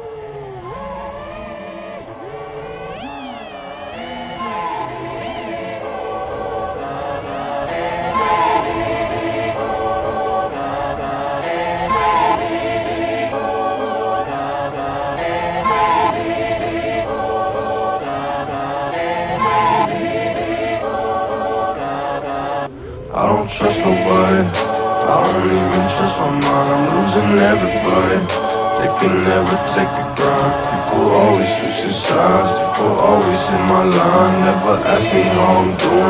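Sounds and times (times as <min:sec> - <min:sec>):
choir-like sung music: 0:00.0 - 0:36.0.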